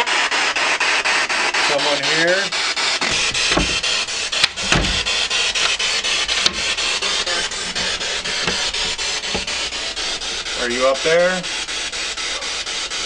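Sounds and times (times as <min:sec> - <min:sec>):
radio static hiss in rapid pulses: 0:01.7 - 0:13.0.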